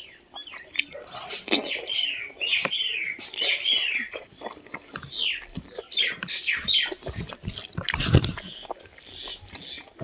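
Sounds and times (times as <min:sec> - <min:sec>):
wet chewing and mouth smacking: 0:00.4 - 0:10.0.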